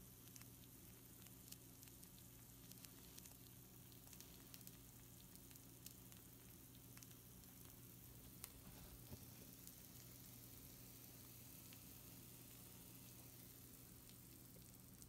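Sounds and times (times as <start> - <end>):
food sizzling on baking sheet: 0.0 - 15.0
low steady hum: 0.0 - 15.0
small crackling pops: 0.0 - 15.0.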